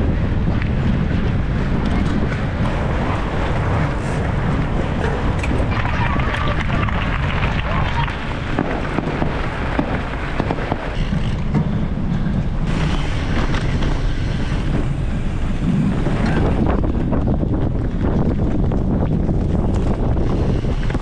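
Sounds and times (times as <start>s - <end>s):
tyres rumbling over dirt: 0.0s - 21.0s
wind buffeting microphone: 0.0s - 21.0s.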